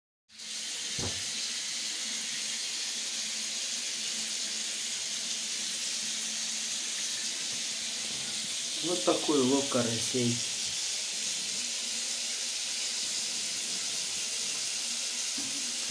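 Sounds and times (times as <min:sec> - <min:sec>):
tap water running into bathtub: 0:00.3 - 0:15.9.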